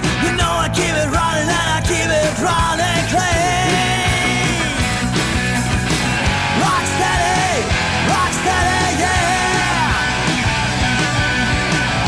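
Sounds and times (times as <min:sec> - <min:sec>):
rock music with singing: 0:00.0 - 0:12.0
steady drum beat: 0:00.0 - 0:12.0.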